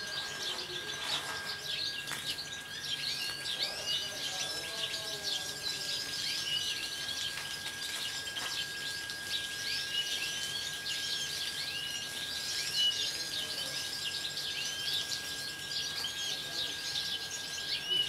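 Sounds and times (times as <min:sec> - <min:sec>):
finches chirping: 0:00.0 - 0:18.0.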